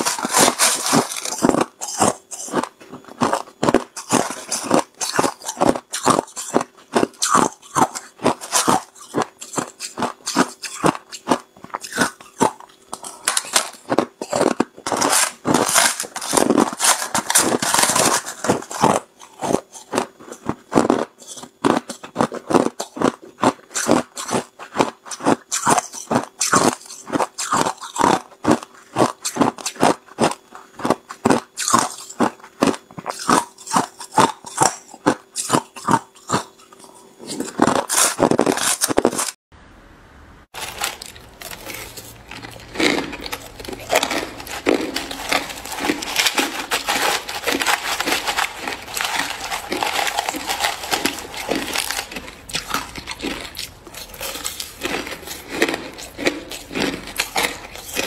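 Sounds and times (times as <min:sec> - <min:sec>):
ice being chewed: 0:00.0 - 0:39.4, 0:40.6 - 0:58.0.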